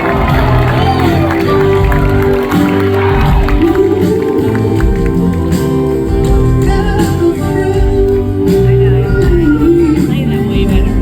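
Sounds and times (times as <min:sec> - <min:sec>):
live band playing soul-pop: 0:00.0 - 0:11.0.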